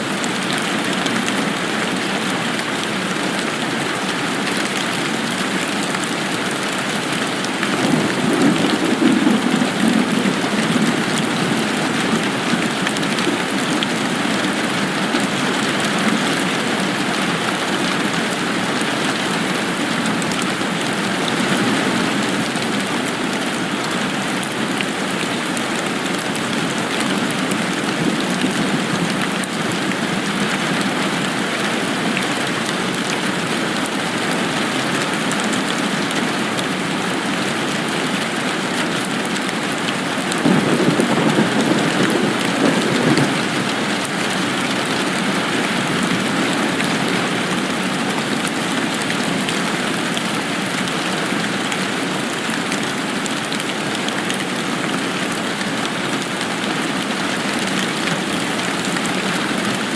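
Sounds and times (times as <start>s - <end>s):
steady rain hiss: 0.1s - 59.9s.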